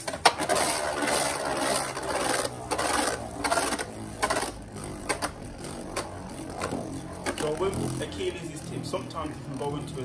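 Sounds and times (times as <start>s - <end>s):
spinning tops whirring: 0.0s - 10.0s.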